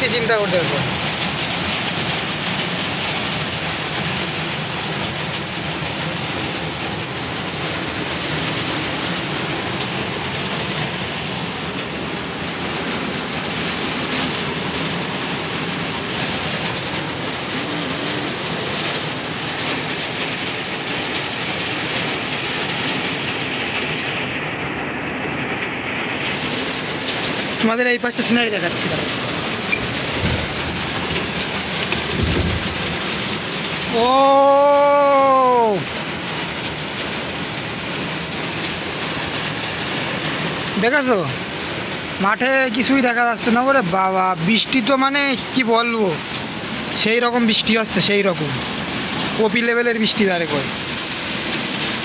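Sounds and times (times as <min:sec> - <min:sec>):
heavy rain on truck cab roof: 0:00.0 - 0:52.0.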